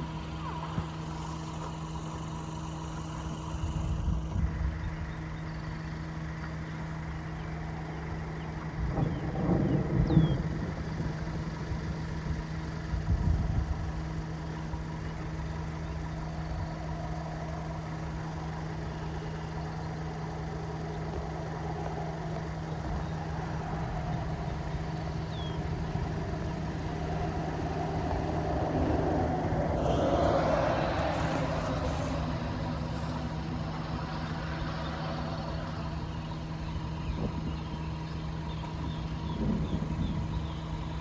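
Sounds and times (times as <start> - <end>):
low rumbles: 0.0 - 41.0
vehicle approaching: 0.0 - 41.0
vehicle engine idling: 0.0 - 41.0.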